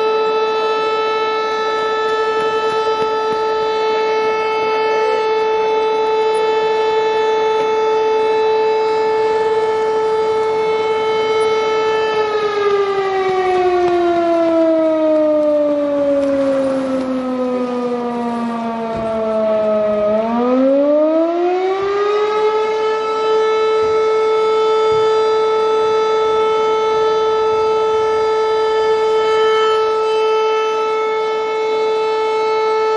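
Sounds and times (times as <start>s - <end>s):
fire siren wailing: 0.0s - 32.9s.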